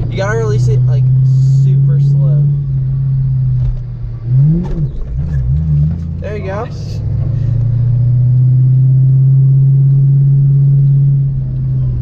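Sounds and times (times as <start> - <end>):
car engine from inside cabin: 0.0 - 12.0.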